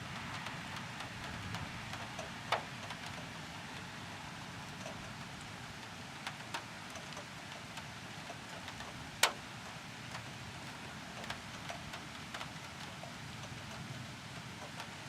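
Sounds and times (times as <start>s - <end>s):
raindrops ticking on hard surface: 0.0s - 15.0s
steady rain hiss: 0.0s - 15.0s.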